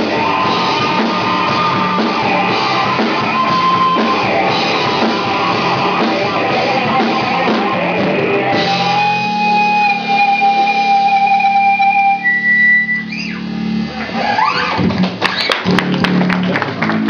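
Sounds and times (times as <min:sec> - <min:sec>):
bass guitar: 0:00.0 - 0:17.0
distorted electric guitar: 0:00.0 - 0:17.0
drums: 0:00.0 - 0:17.0
ringing guitar notes: 0:00.2 - 0:14.7.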